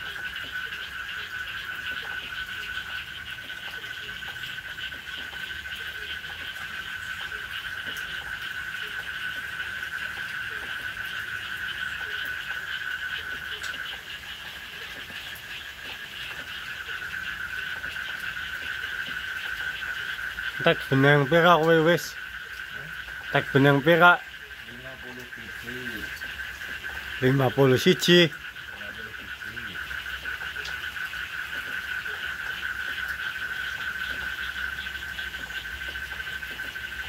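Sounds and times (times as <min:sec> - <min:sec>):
frogs calling: 0:00.0 - 0:37.0.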